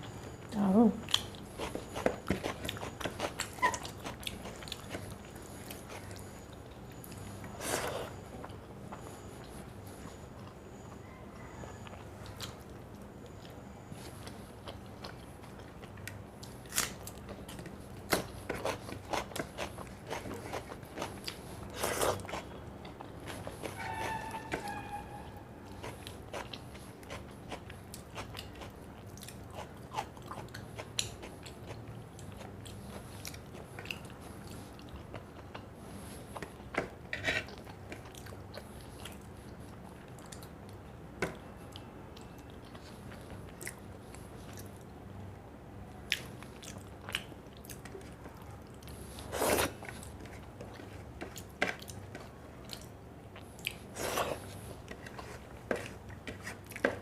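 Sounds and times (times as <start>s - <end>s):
person chewing: 1.1s - 9.6s, 13.4s - 24.7s, 25.6s - 44.9s, 46.1s - 57.0s.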